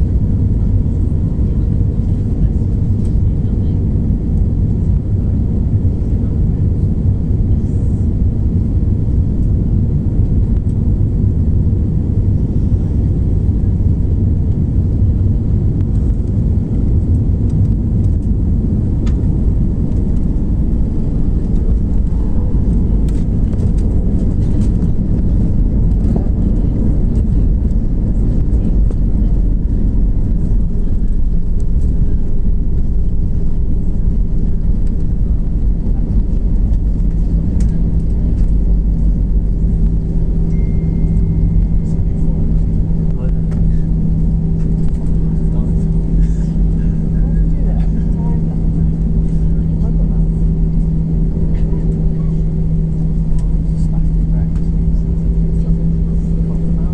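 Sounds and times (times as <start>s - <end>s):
airliner low rumble: 0.0s - 56.9s.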